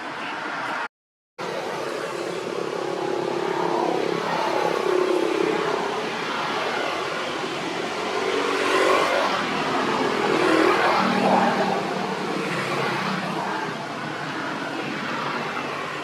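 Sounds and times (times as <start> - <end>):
vehicle engines passing by: 0.0 - 16.0.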